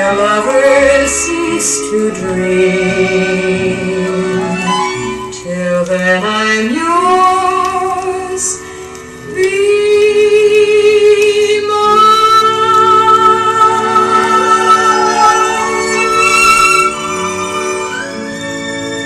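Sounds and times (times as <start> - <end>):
ballad music over loudspeaker: 0.0 - 19.0.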